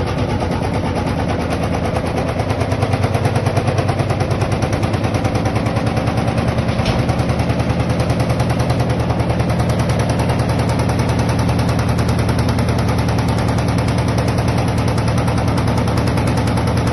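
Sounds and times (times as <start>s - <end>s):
steady low hum: 0.0s - 16.9s
washing machine rattling: 0.0s - 16.9s.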